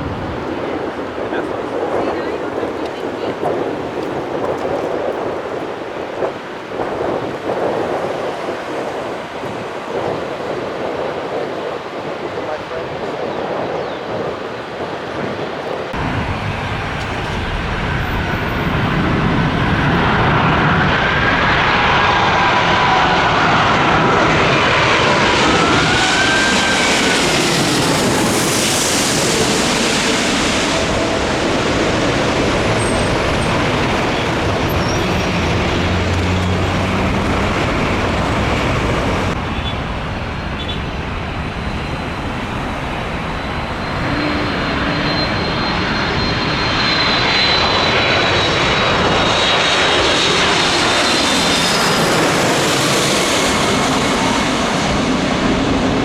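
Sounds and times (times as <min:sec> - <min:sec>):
airliner jet engines landing: 0:00.0 - 0:56.0.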